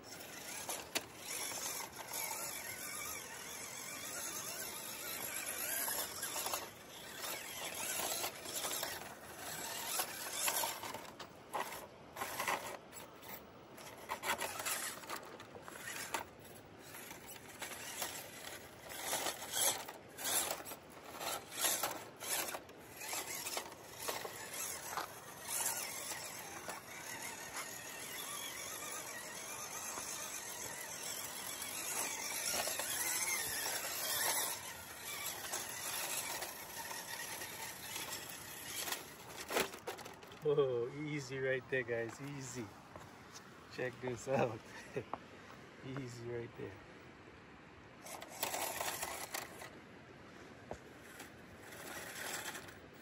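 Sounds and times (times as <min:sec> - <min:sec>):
toy truck electric motor whining: 0:00.0 - 0:40.5, 0:48.0 - 0:49.7, 0:51.0 - 0:52.8.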